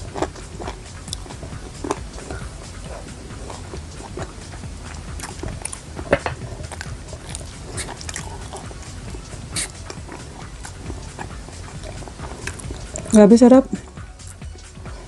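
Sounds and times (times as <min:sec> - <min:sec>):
chewing and crunching food: 0:00.0 - 0:15.0
low steady hum: 0:00.0 - 0:15.0.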